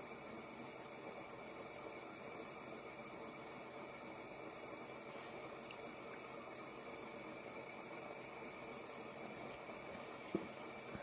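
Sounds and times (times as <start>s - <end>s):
fidget spinner whirring: 0.0s - 11.0s.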